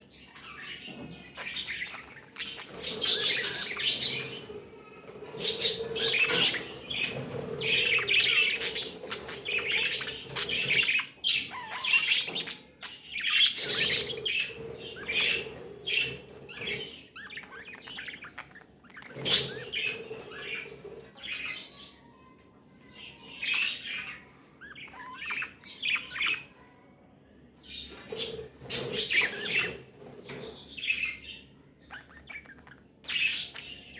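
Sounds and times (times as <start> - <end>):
budgerigars chirping and warbling: 0.0 - 21.9, 22.8 - 26.7, 27.6 - 33.9.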